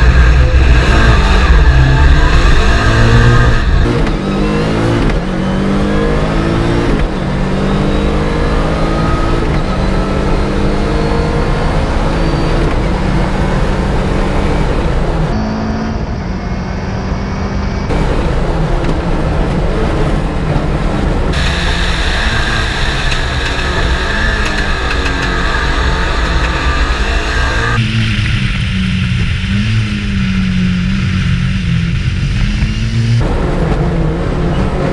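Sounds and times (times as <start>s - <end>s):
car engine accelerating hard: 0.0s - 34.9s.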